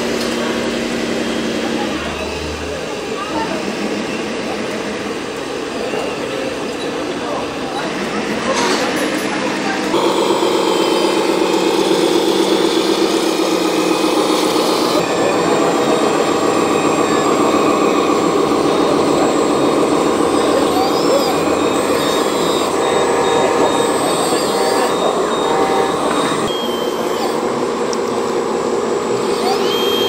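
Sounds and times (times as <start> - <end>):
model trucks engine drone: 0.0 - 30.0.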